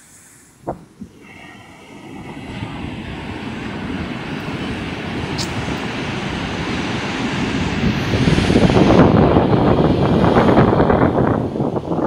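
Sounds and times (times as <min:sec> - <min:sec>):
wave breaking on beach: 0:00.0 - 0:12.0.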